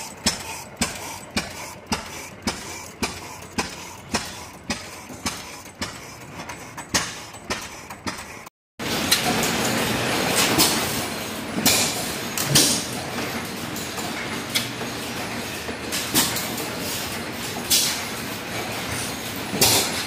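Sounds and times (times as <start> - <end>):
stationary engines clattering: 0.0 - 20.0.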